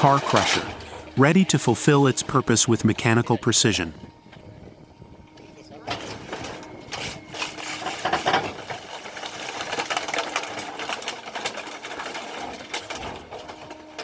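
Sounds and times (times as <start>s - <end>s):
heavy machinery clattering: 0.0s - 14.0s.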